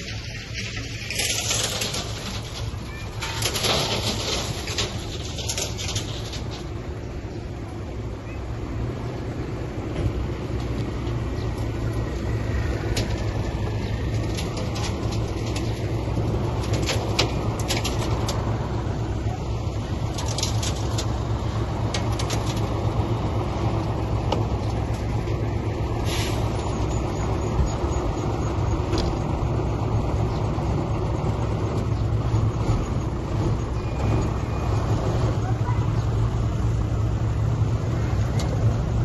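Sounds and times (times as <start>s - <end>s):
diesel machinery running: 0.0s - 39.0s.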